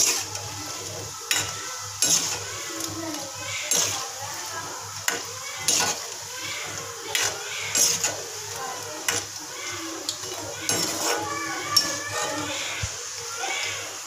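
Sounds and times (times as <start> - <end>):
metal spoon scraping a pan: 0.0 - 4.2, 5.0 - 12.9
food sizzling in hot oil: 0.0 - 14.0.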